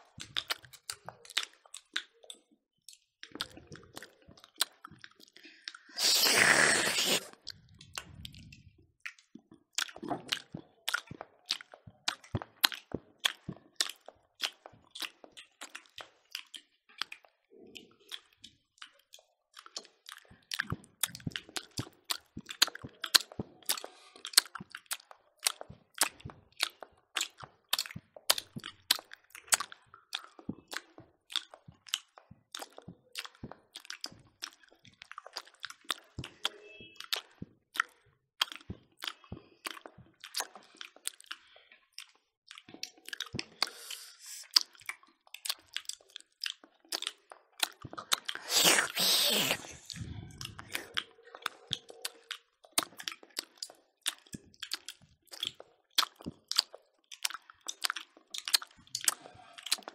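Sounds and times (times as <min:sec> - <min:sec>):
wet chewing and lip smacking: 0:00.0 - 0:59.9.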